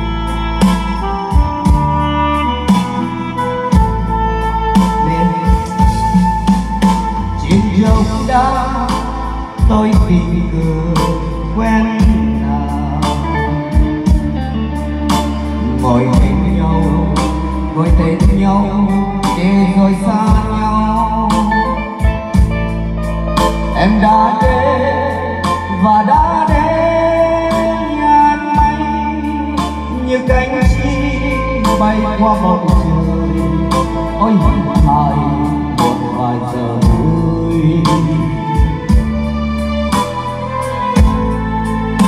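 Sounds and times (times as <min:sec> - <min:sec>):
live band over pa system: 0:00.0 - 0:42.0.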